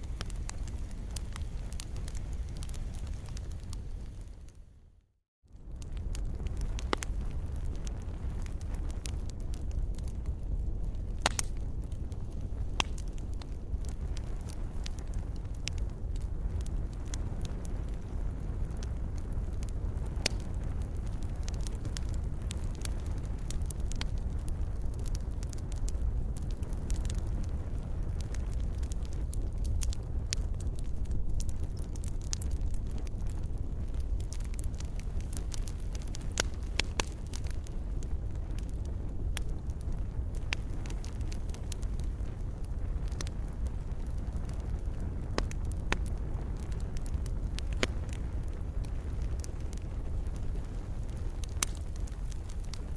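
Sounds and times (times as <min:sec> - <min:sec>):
campfire crackling: 0:00.0 - 0:04.7, 0:05.6 - 0:52.9
fire pops and snaps: 0:00.0 - 0:04.7, 0:05.6 - 0:52.9.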